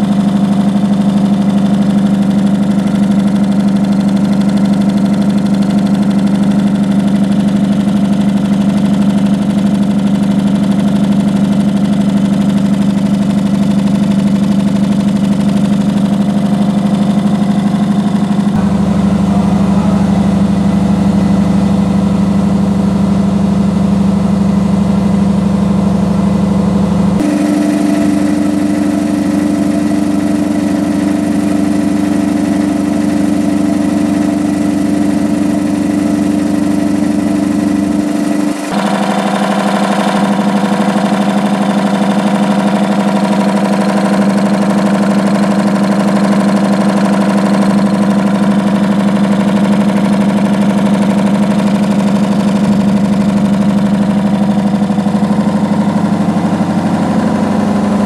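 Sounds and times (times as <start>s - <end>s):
air compressor running: 0.0s - 58.0s.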